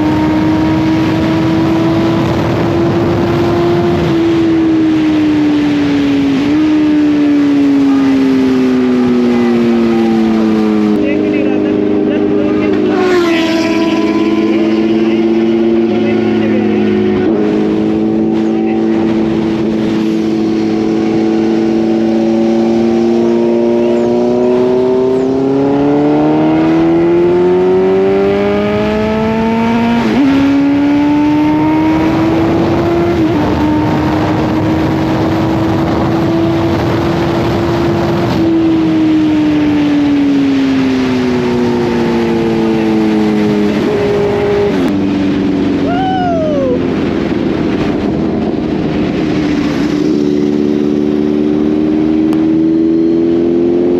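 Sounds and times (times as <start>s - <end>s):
motorcycle engine accelerating: 0.0s - 53.9s
wind noise: 0.0s - 53.9s.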